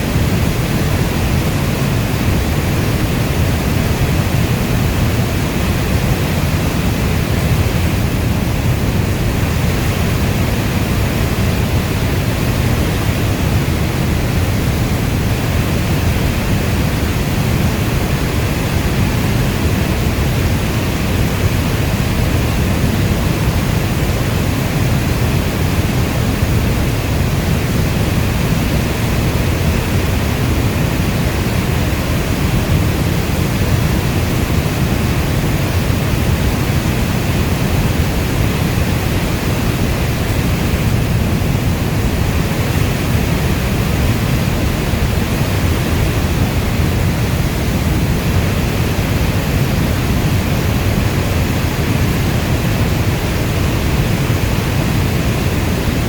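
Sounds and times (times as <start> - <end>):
heavy rainfall: 0.0 - 56.0.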